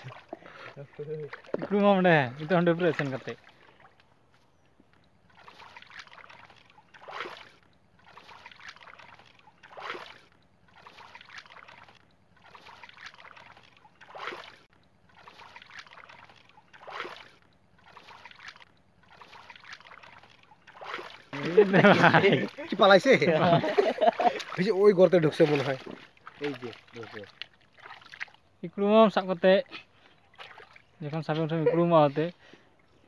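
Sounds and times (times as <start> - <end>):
water sloshing: 0.0 - 33.0
water splashes: 0.0 - 33.0.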